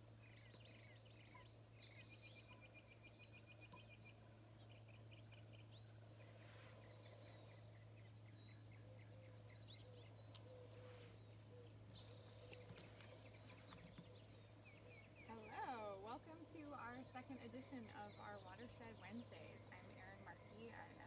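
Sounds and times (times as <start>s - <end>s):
birds chirping and trilling: 0.0s - 21.0s
low steady hum: 0.0s - 21.0s.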